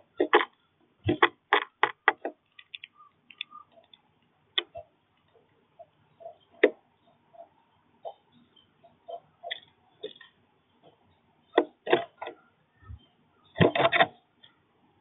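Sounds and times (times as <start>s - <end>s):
birds pecking at feeder: 0.0s - 13.0s.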